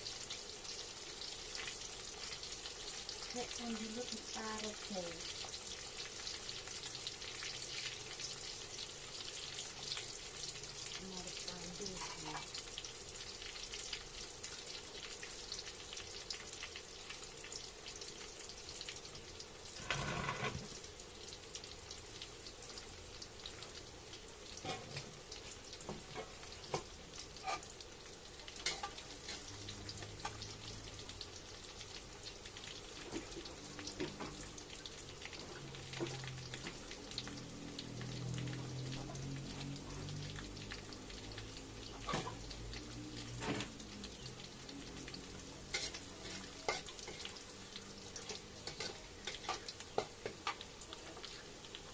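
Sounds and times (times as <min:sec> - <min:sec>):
food sizzling in oil: 0:00.0 - 0:51.9.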